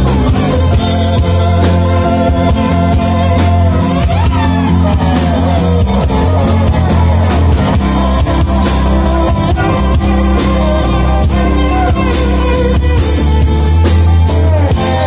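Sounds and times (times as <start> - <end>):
drum kit: 0.0 - 15.0
electric guitars: 0.0 - 15.0
sliding guitar line: 0.0 - 15.0.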